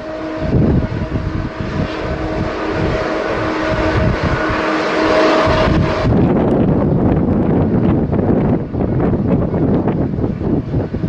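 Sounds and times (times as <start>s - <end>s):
jet engines whining: 0.0s - 11.0s
wind buffeting microphone: 0.0s - 11.0s.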